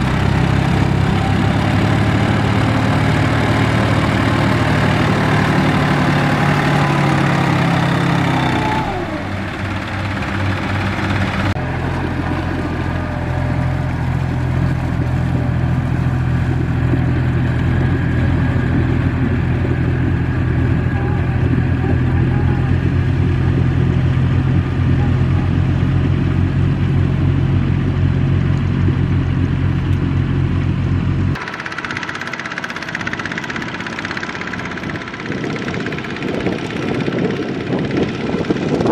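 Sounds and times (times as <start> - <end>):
tractor engines running under load: 0.0 - 38.9.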